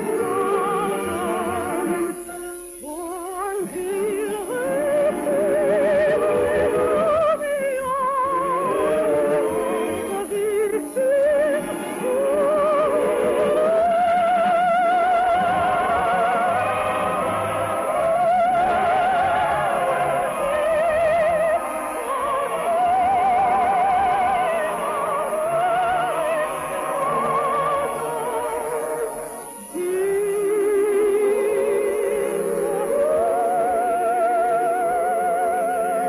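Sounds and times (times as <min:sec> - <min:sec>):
operetta singing with orchestra: 0:00.0 - 0:36.0.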